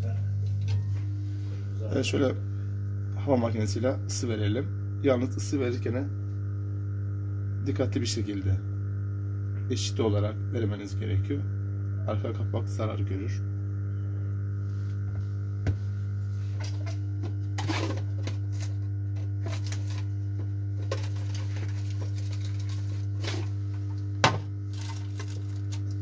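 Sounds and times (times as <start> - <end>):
hot air station humming: 0.0 - 26.0.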